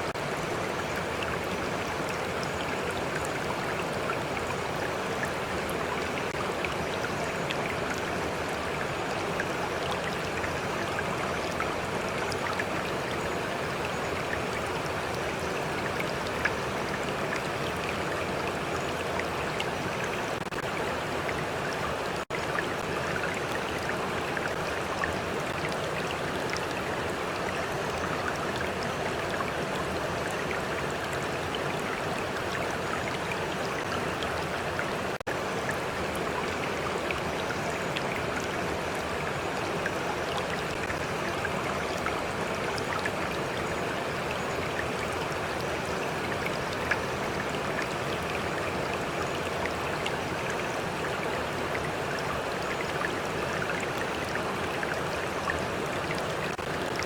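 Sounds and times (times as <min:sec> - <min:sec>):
stream flowing: 0:00.0 - 0:57.0
water lapping and trickling: 0:00.0 - 0:57.0.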